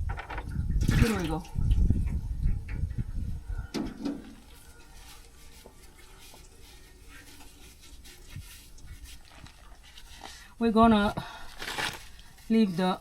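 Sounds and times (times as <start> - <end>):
oil trickling into drain box: 0.0 - 10.6.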